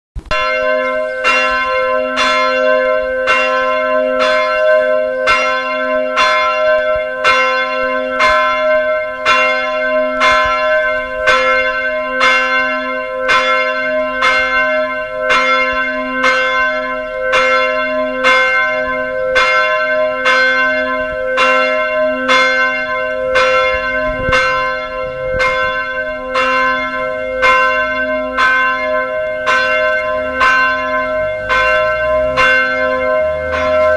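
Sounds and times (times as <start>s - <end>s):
church bell ringing: 0.2s - 33.9s.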